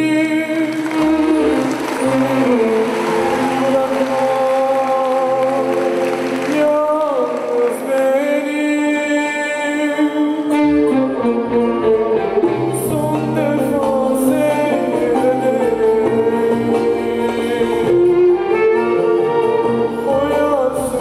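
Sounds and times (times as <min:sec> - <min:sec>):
instrumental backing music: 0:00.0 - 0:21.0
person singing long notes: 0:00.0 - 0:21.0.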